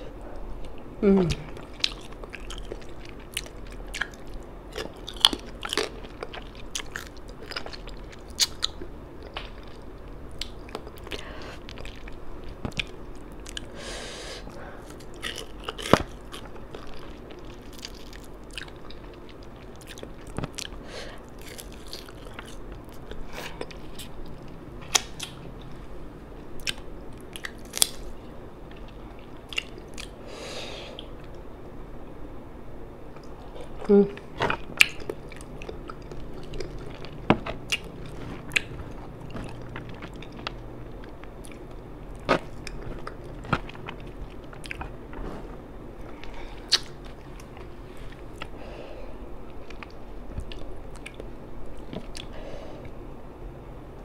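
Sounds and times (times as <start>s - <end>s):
close chewing and mouth sounds: 0.2s - 13.8s, 14.5s - 30.2s, 33.1s - 48.6s, 49.4s - 53.0s.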